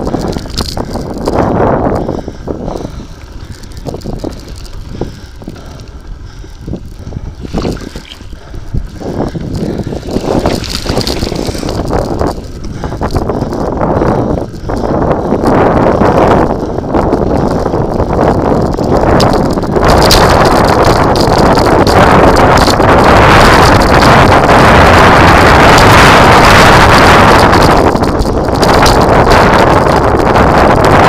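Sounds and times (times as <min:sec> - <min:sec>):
tyres crackling on wet gravel: 0:00.0 - 0:14.9, 0:15.9 - 0:31.0
wind buffeting microphone: 0:00.0 - 0:31.0.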